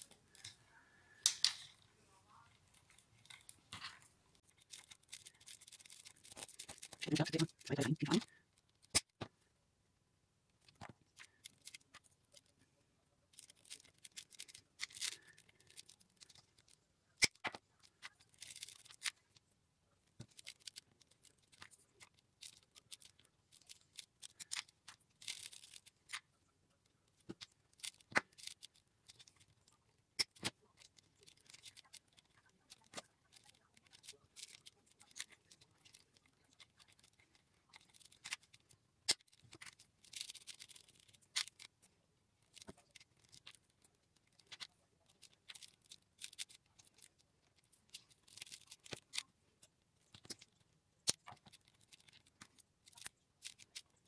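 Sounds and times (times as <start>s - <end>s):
paper tubes rustling and clicking: 2.8s - 9.3s, 13.3s - 54.0s.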